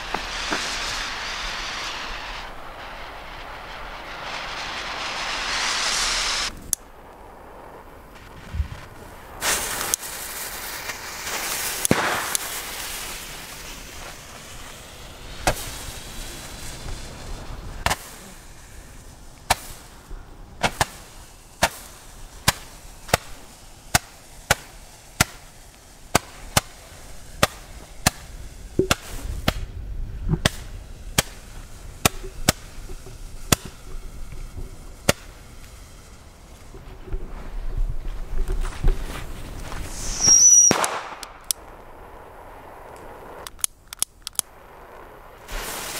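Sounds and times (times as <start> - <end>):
firework cracks: 0.0 - 45.9
firework hissing: 0.0 - 45.9.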